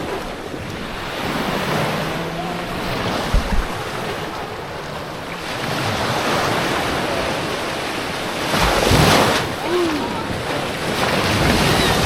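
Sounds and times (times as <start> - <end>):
waves washing onto beach: 0.0 - 12.0
wind on microphone: 0.0 - 12.0.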